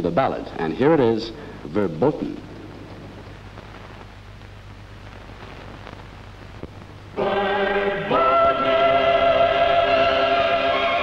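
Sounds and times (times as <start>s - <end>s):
mains hum and hiss: 0.0s - 11.0s.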